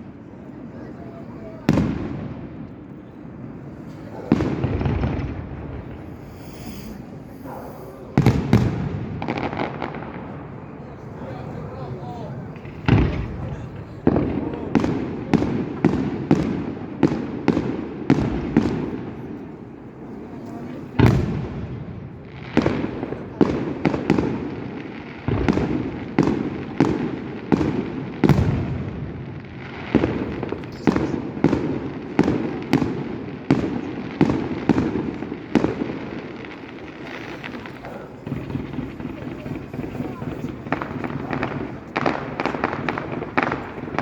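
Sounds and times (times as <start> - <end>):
firework bangs echoing: 1.3 - 44.0.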